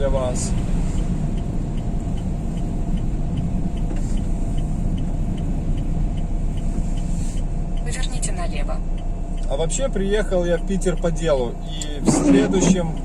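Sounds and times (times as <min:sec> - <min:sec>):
engine and road rumble: 0:00.0 - 0:13.0
turn signal ticking: 0:00.0 - 0:13.0.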